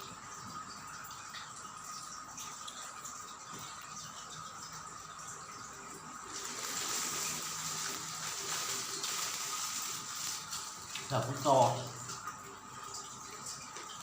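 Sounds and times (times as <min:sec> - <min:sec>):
water running: 0:00.0 - 0:14.0.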